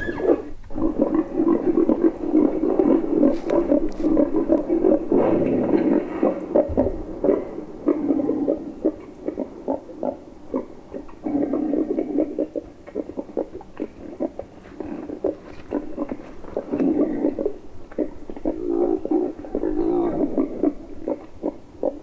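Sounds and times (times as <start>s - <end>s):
wild boar grunting: 0.0s - 22.0s.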